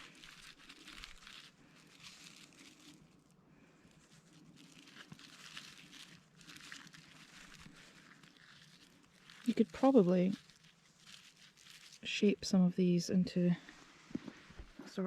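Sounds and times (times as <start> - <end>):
twigs rustling and crackling: 0.0 - 15.0.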